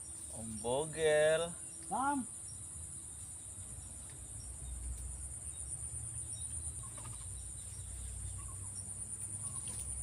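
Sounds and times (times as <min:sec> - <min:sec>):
insect chorus trilling: 0:00.0 - 0:10.0.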